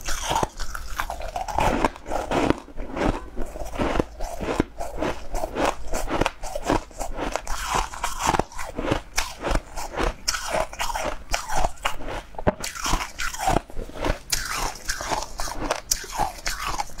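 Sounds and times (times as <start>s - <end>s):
person chewing crunchy ice: 0.0s - 17.0s.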